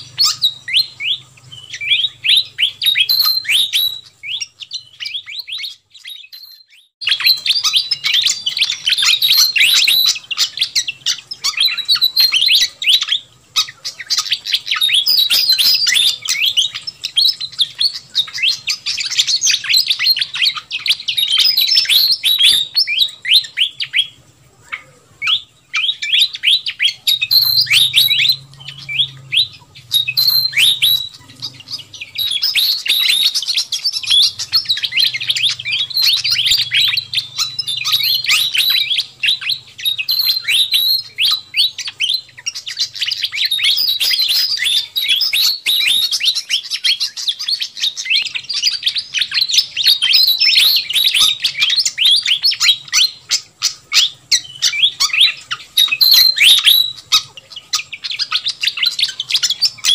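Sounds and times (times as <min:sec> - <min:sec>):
bird chattering chirps: 0:00.0 - 0:59.9.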